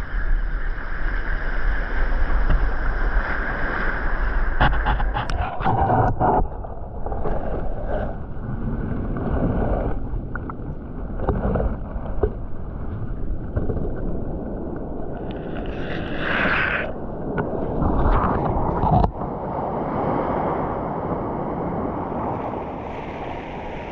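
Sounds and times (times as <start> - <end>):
muffled underwater rushing water: 0.0 - 23.9.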